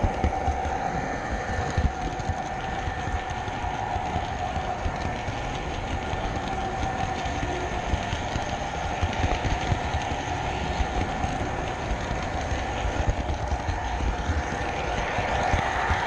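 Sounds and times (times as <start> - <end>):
model train running: 0.0 - 16.0
wheels clicking on rails: 0.0 - 16.0.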